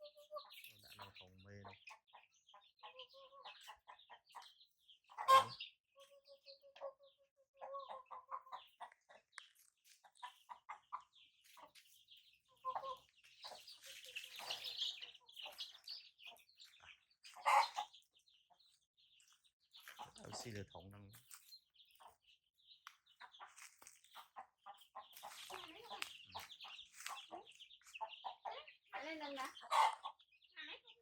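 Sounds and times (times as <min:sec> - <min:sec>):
chickens clucking: 0:00.0 - 0:31.0
chicks peeping: 0:00.0 - 0:31.0.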